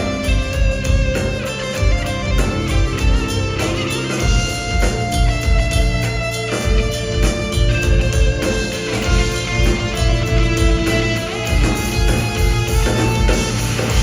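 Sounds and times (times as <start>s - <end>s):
live band music with guitar: 0.0s - 14.0s.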